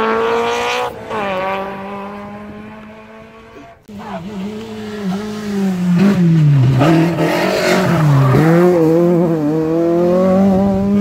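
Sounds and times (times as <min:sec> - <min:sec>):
rally car engine revving: 0:00.0 - 0:11.0
rush of passing car: 0:00.0 - 0:11.0.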